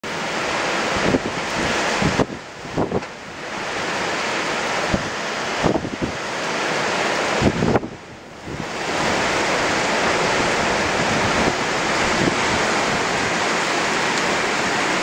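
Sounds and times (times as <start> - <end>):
rough surf breaking: 0.0 - 15.0
wind buffeting microphone: 0.4 - 15.0.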